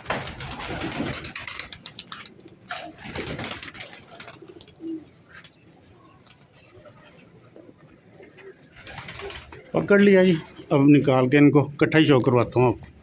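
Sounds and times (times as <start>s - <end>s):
pigeons cooing: 0.0s - 11.3s.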